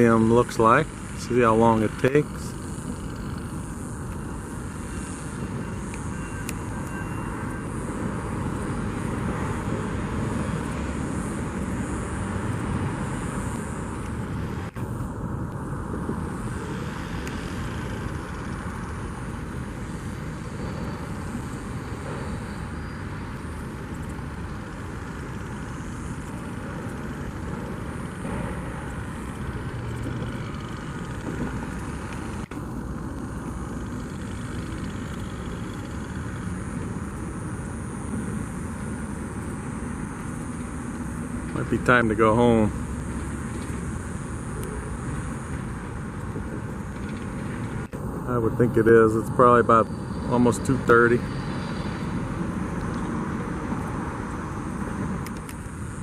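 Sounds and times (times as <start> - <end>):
distant vehicle traffic: 0.0 - 56.0.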